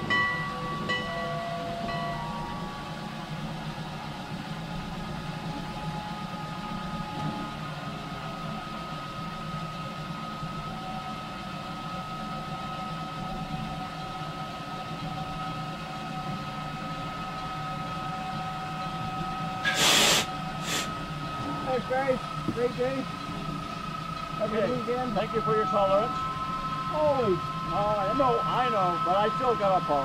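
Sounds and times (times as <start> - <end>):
locomotive low hum: 0.0 - 30.0
thin whine: 0.0 - 30.0.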